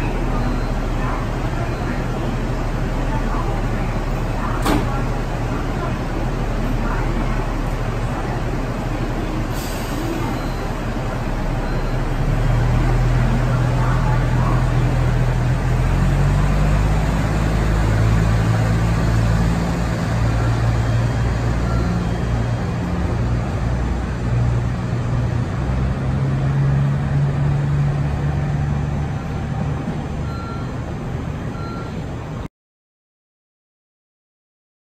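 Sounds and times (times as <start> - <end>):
diesel engine drone: 0.0 - 32.5.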